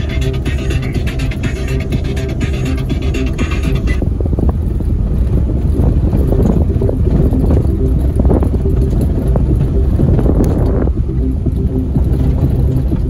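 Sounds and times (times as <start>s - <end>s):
vehicle engine and road rumble: 0.0s - 13.0s
wind buffeting microphone: 0.0s - 13.0s.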